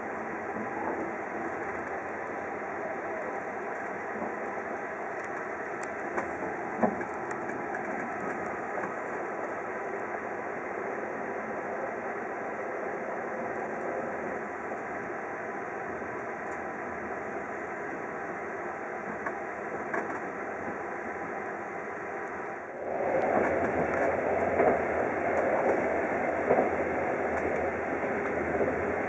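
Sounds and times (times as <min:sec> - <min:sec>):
sleeper train running: 0:00.0 - 0:29.0.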